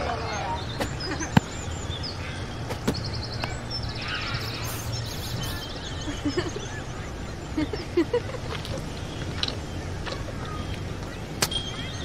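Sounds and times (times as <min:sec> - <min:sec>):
low background rumble: 0:00.0 - 0:12.0
small birds chirping and trilling: 0:00.0 - 0:12.0.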